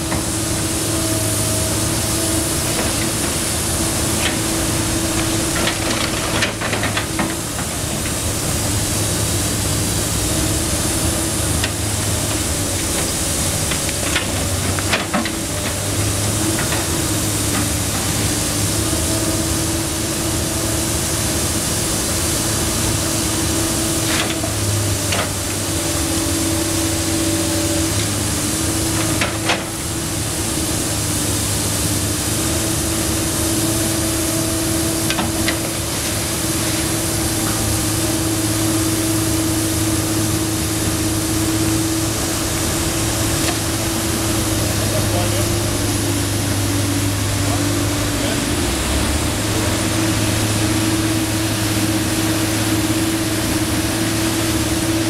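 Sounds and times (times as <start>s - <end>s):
excavator diesel engine and hydraulics: 0.0s - 55.0s.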